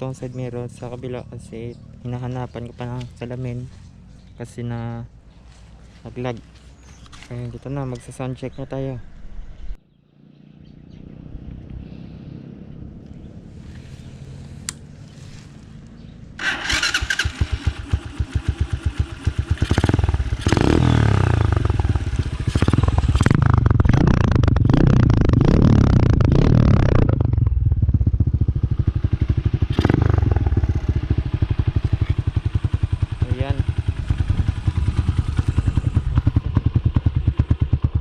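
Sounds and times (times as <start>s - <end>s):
motorcycle engine idling: 0.0s - 4.6s, 10.2s - 38.0s
motorcycle engine revving: 0.0s - 4.6s, 10.2s - 38.0s.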